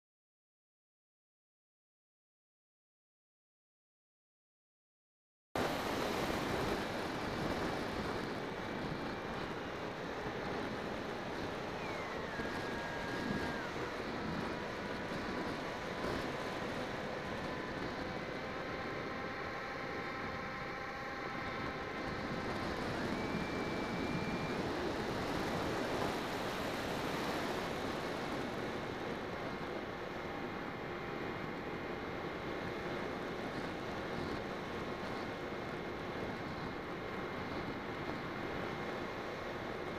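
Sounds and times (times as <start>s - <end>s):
electric motor and propeller whine: 5.6s - 39.9s
wind rushing over microphone: 5.6s - 39.9s.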